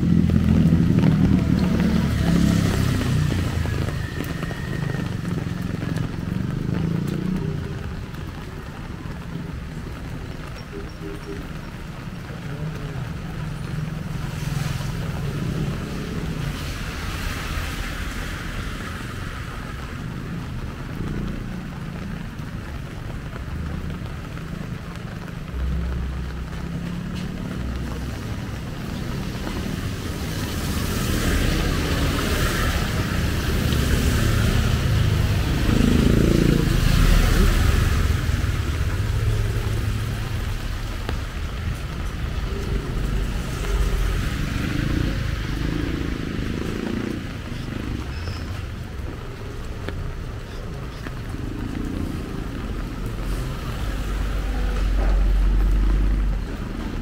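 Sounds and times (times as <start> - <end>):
light rain on wet street: 0.0 - 57.0
motorcycles passing on wet road: 0.0 - 57.0.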